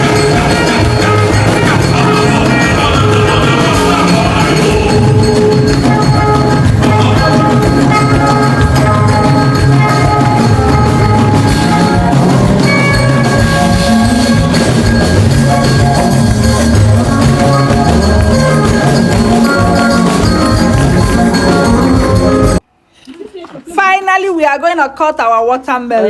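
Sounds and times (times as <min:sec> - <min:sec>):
music with short notes over a beat: 0:00.0 - 0:22.6.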